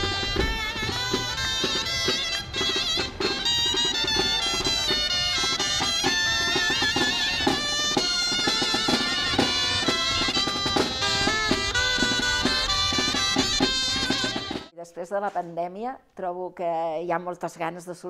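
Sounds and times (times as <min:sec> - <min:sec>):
steady drum beat: 0:00.0 - 0:14.7
wind instruments playing melody: 0:00.0 - 0:14.7.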